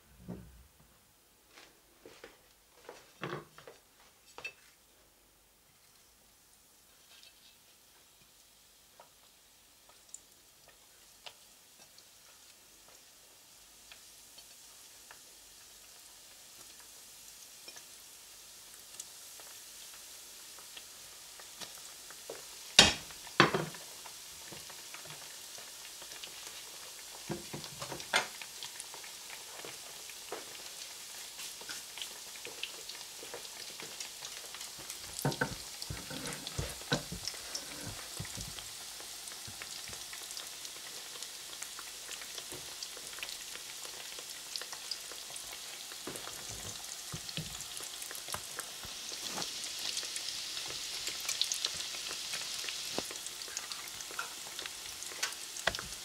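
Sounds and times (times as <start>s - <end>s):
food sizzling and popping in oil: 6.7s - 56.0s.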